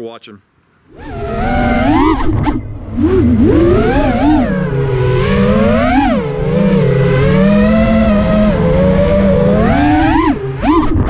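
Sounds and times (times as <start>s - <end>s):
quadcopter motors whining: 0.9s - 11.0s.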